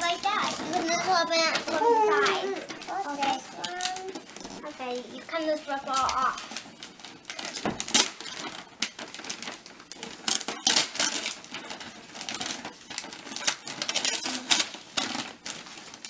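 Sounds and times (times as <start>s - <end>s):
wrapping paper rustling and tearing: 0.0s - 16.0s.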